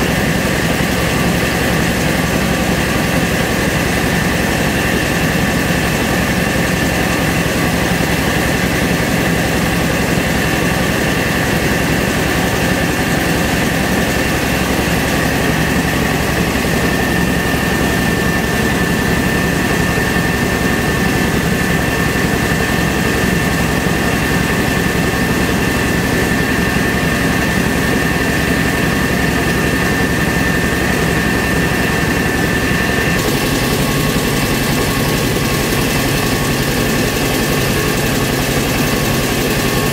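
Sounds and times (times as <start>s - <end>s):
rice mill machine running: 0.0s - 39.9s.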